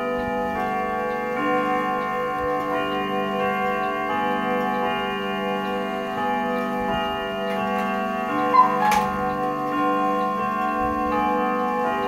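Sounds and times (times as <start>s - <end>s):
clock ticking: 0.0s - 11.2s
clock chime melody: 0.0s - 12.0s.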